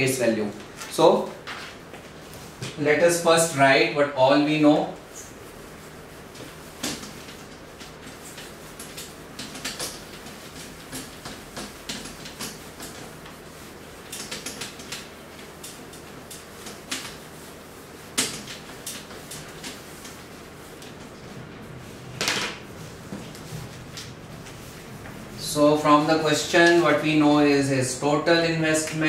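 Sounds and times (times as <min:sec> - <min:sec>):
duster rubbing on whiteboard: 0:02.4 - 0:27.6.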